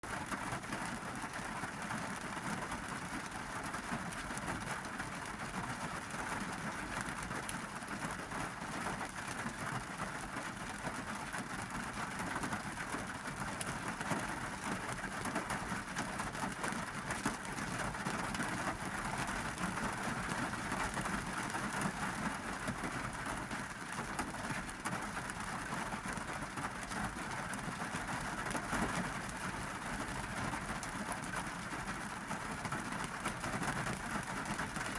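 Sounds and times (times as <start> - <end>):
heavy rain on car roof: 0.0 - 34.9.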